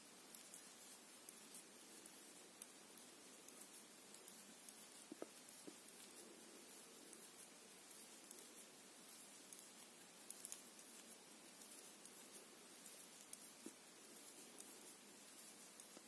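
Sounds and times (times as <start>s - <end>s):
steady low hiss: 0.0s - 16.0s
metal knitting needles clicking: 0.1s - 16.0s.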